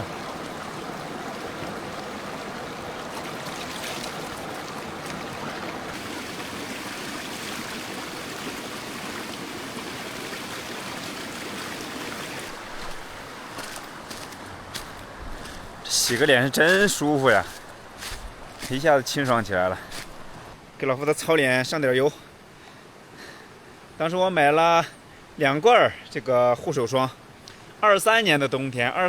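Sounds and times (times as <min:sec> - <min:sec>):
stream rushing over stones: 0:00.0 - 0:25.5.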